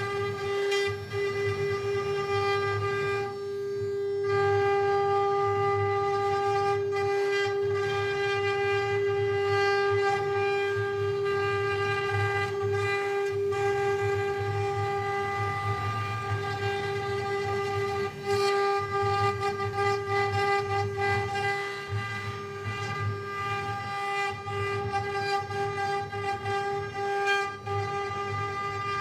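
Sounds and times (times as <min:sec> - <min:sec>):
wood router spindle whine: 0:00.0 - 0:29.0.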